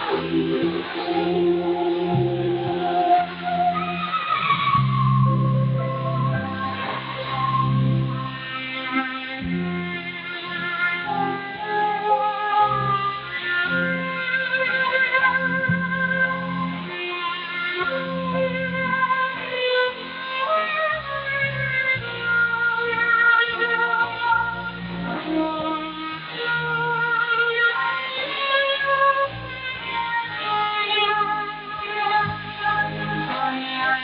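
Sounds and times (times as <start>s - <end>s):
music over shortwave radio: 0.0s - 34.0s.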